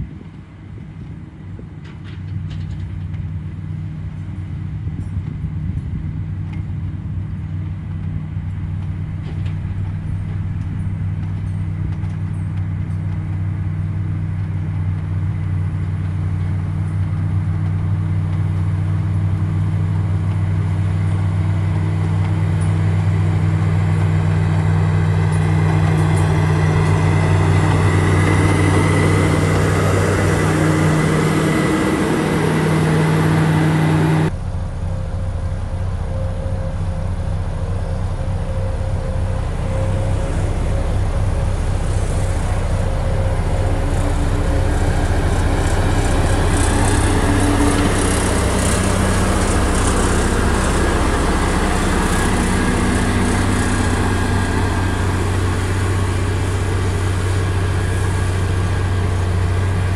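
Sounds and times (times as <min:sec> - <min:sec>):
diesel engine running under load: 0:00.0 - 0:59.9
grader blade pushing soil: 0:08.2 - 0:34.4, 0:36.5 - 0:59.9.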